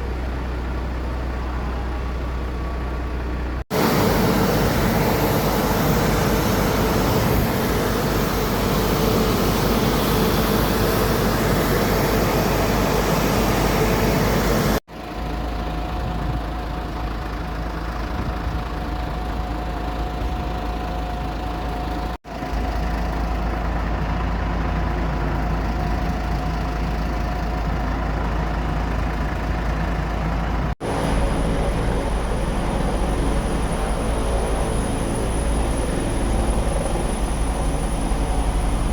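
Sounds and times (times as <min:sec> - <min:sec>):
aircraft engines rumbling: 0:00.0 - 0:14.8, 0:15.6 - 0:38.9.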